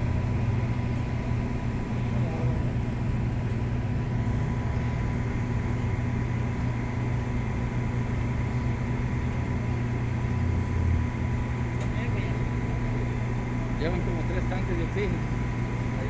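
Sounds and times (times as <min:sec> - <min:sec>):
engine droning: 0:00.0 - 0:16.0
steady high whine: 0:00.0 - 0:16.0.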